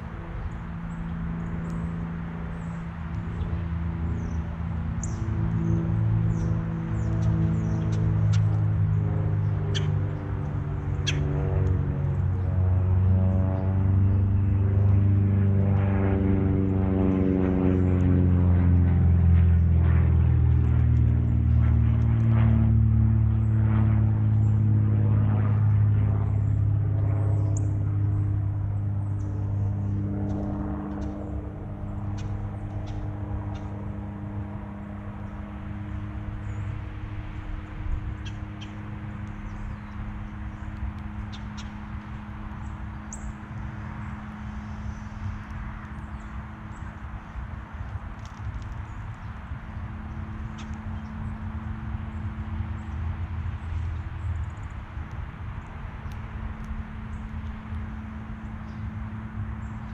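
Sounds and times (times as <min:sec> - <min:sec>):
constant hum: 0:00.0 - 0:59.9
low engine drone: 0:00.0 - 0:59.9
low outdoor rumble: 0:00.0 - 0:59.9.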